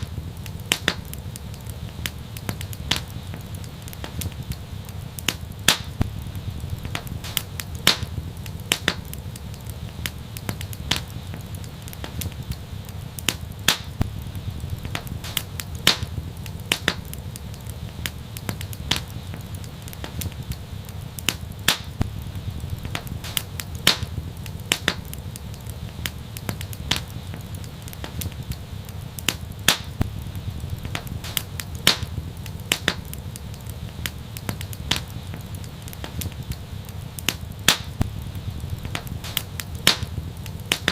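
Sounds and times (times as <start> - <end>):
fire pops and snaps: 0.0 - 40.9
fire rumble: 0.0 - 40.9.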